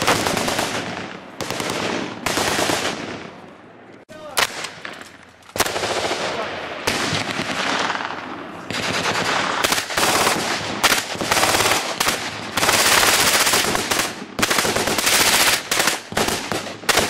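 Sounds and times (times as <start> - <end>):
submachine gun firing bursts: 0.0 - 3.2, 5.6 - 17.0.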